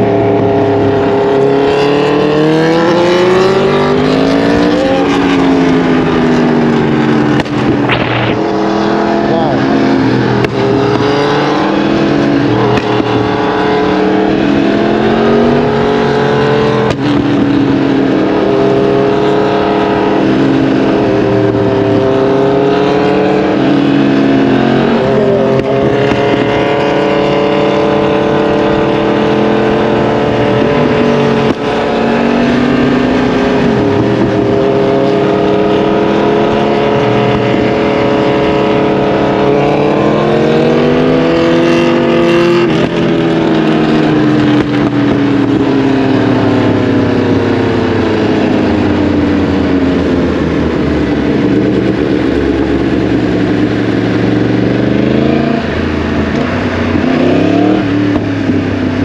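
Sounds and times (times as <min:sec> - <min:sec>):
motorcycle engine revving: 0:00.0 - 0:59.0
wind rush: 0:00.0 - 0:59.0.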